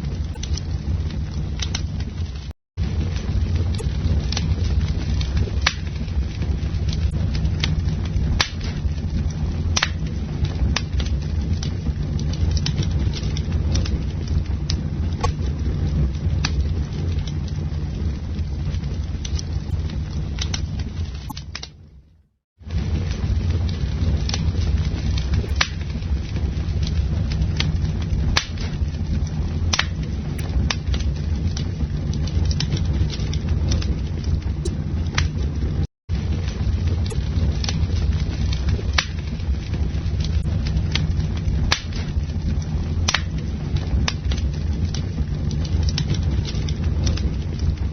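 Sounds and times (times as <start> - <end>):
campfire roaring: 0.0 - 47.9
fire crackling and popping: 0.0 - 47.9.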